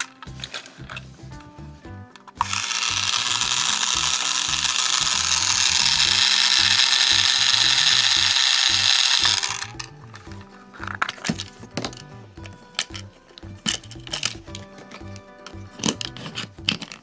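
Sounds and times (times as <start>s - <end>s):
toy train motor grinding whir: 2.2s - 17.0s.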